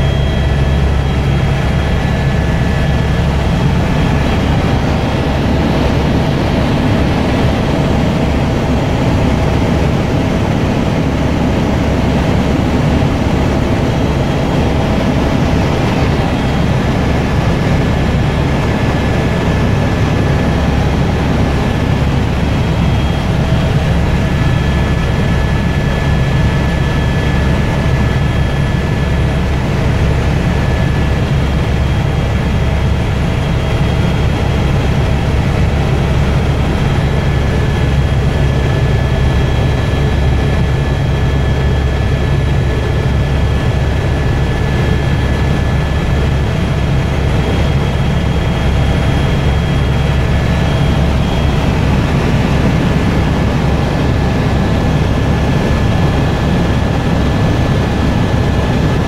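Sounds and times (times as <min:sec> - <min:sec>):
helicopter engine and rotors drone: 0:00.0 - 0:59.0.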